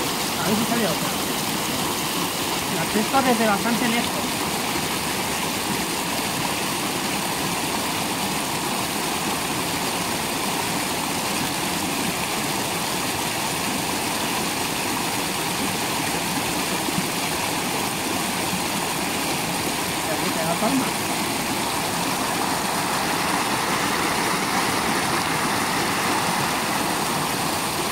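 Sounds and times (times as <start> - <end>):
stream rushing over stones: 0.0 - 27.9.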